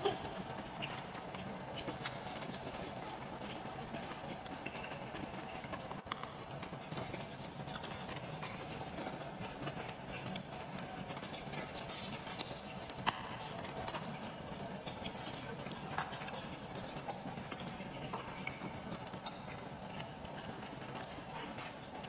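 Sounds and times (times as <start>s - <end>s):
chewing and mouth smacks: 0.7s - 22.0s.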